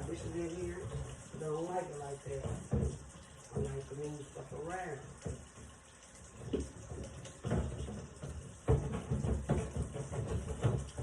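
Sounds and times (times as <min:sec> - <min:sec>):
water sloshing in sink: 0:00.0 - 0:11.0.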